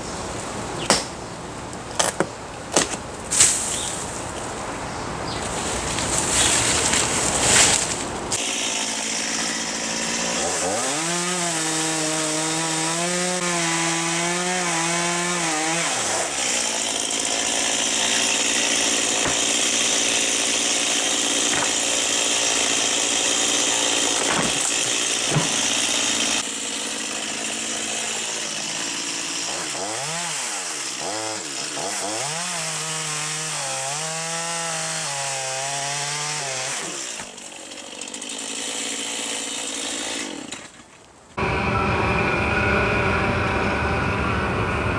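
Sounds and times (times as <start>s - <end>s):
chainsaw cutting into tree limb: 2.0s - 4.5s, 5.4s - 41.0s.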